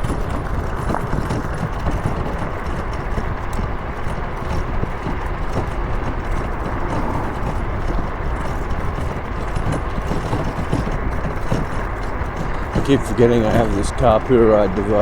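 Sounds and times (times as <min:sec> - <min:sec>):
faint knocks: 0:00.0 - 0:14.7
road and wind rumble: 0:00.0 - 0:15.0.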